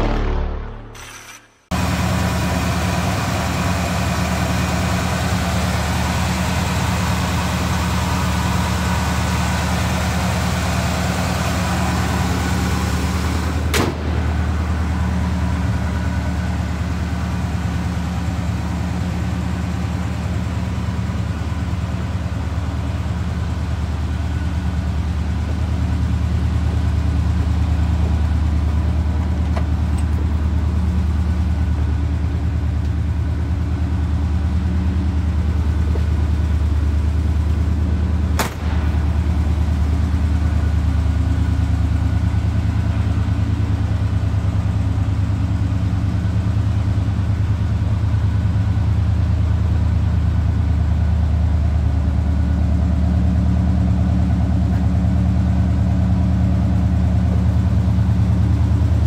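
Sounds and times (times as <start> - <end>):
truck engine idling: 1.7 - 59.0.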